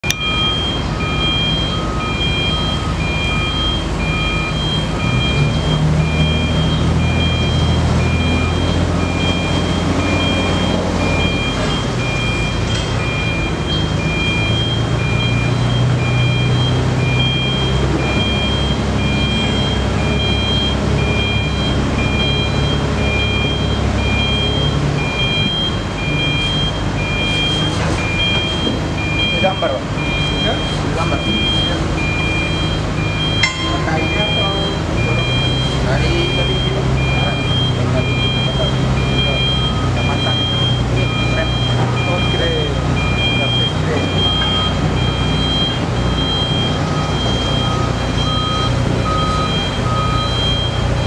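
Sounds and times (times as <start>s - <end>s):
diesel machinery engine: 0.0s - 51.0s
electronic warning alarm beeps: 0.0s - 51.0s.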